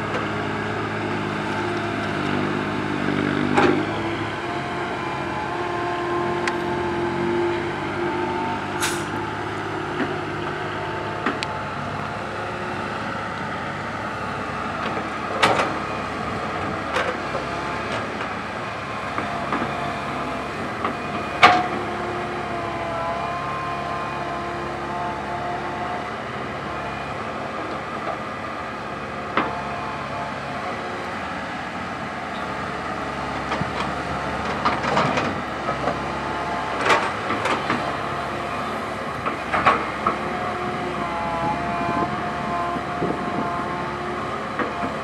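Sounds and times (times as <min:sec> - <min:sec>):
excavator engine and hydraulic whine: 0:00.0 - 0:45.0.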